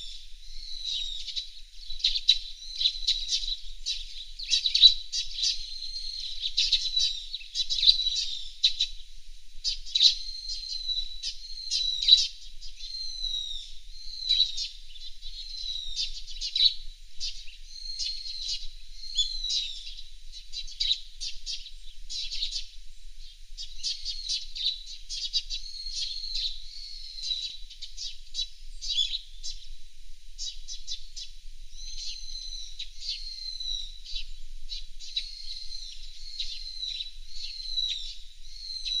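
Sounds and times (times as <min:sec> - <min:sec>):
birds chirping and twittering: 0:00.0 - 0:39.0.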